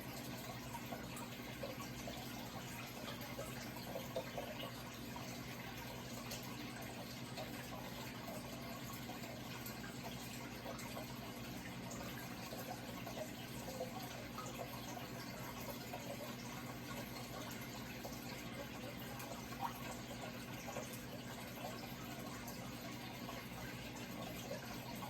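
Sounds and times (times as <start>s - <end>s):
water drip: 0.0s - 25.0s
water trickling and splashing: 0.0s - 25.0s.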